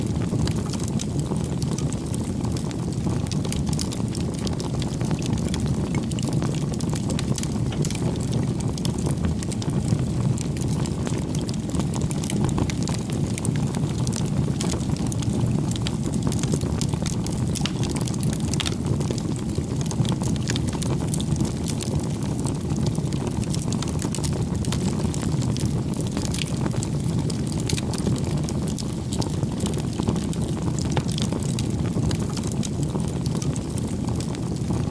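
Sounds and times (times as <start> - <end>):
campfire flames rushing: 0.0 - 34.9
wood crackling and popping: 0.0 - 34.9.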